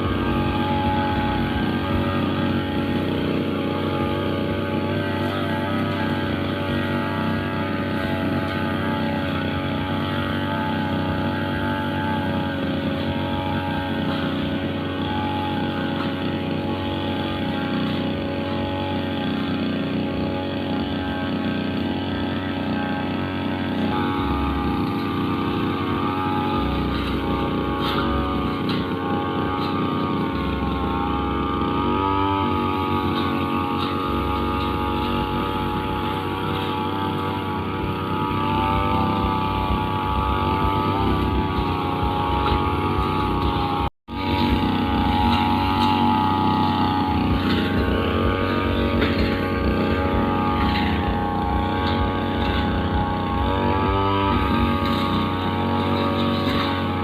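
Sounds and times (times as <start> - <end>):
brushcutter engine running: 0.0 - 57.0.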